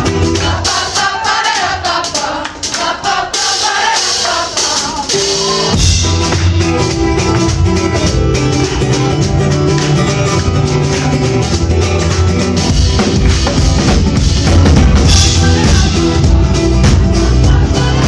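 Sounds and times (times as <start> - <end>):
drum kit beat: 0.0 - 18.0
live band music: 0.0 - 18.0.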